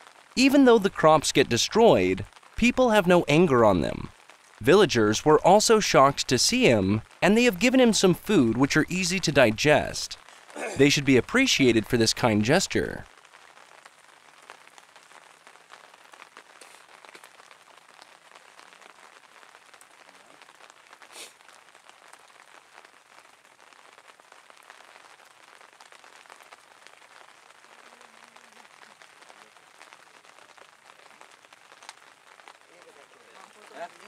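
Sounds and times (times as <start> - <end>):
faint rain pattering: 0.0 - 34.0.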